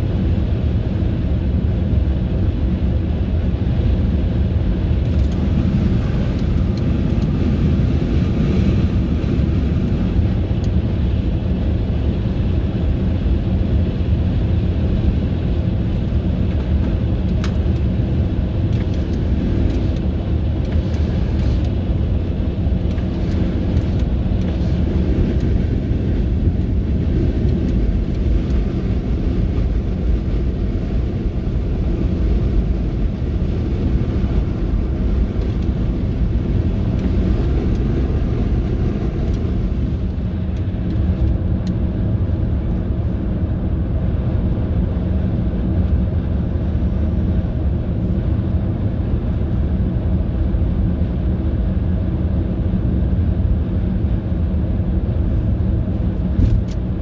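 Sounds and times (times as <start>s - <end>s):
car cabin road noise: 0.0s - 57.0s.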